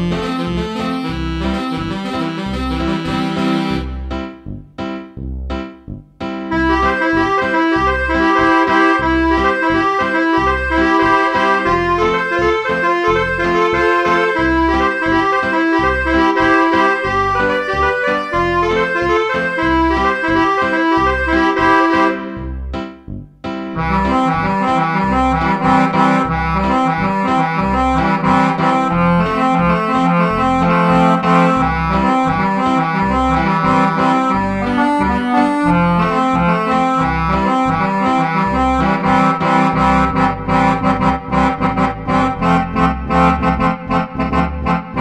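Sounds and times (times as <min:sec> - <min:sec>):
digital accordion orchestral sound: 0:00.0 - 0:45.0.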